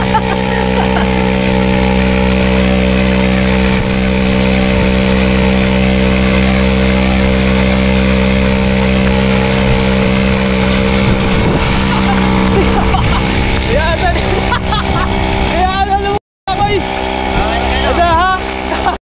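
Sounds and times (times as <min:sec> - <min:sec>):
small gasoline engine drone: 0:00.0 - 0:19.0.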